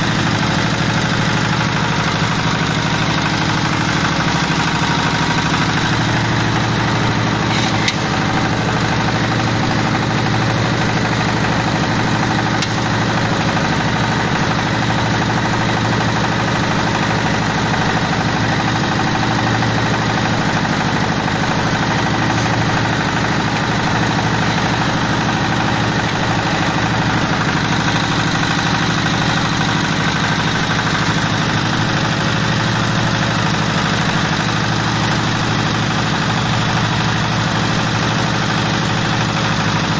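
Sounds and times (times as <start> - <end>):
feed machine engine drone: 0.0 - 39.9.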